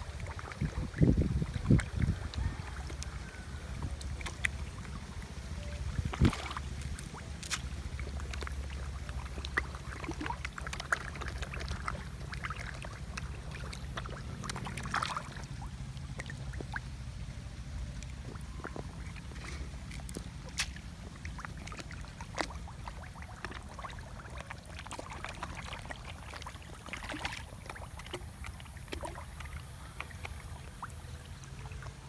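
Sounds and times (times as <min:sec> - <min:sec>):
steady low hum: 0:00.0 - 0:32.0
water sloshing and splashing: 0:00.0 - 0:32.0.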